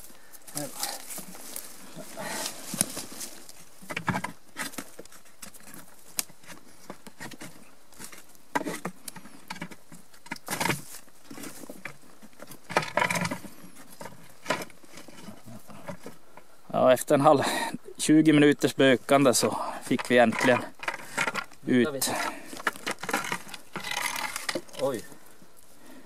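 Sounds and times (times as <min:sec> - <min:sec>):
scraping among stones: 0:00.0 - 0:16.2, 0:19.5 - 0:25.3.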